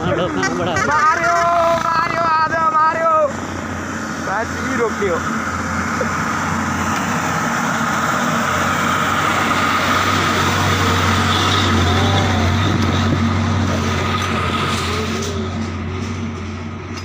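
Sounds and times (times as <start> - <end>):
truck driving past: 0.0 - 17.0.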